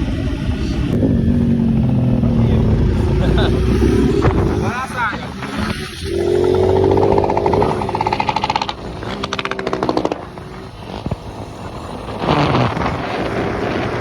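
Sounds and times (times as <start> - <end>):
small motorcycle engine revving: 0.2 - 14.0.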